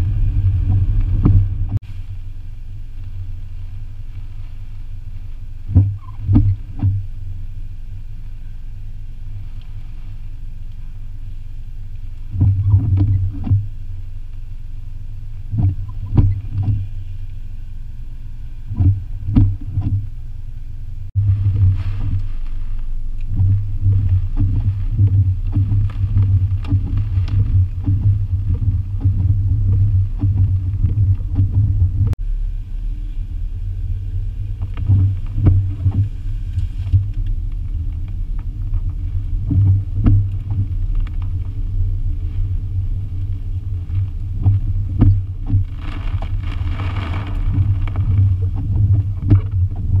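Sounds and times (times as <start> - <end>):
irregular thumps: 0.0 - 2.1, 5.6 - 7.3, 12.2 - 14.5, 15.2 - 17.2, 17.8 - 50.0
car driving in wind and rain: 0.0 - 50.0.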